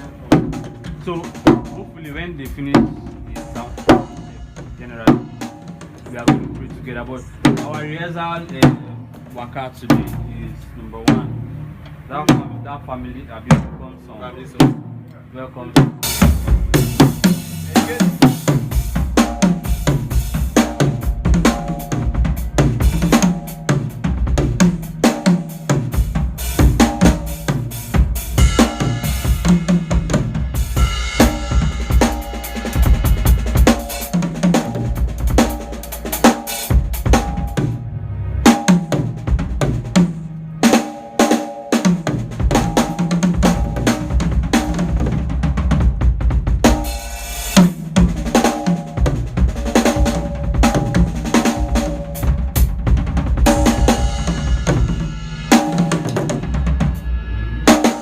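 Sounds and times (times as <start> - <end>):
drum kit playing: 0.0 - 58.0.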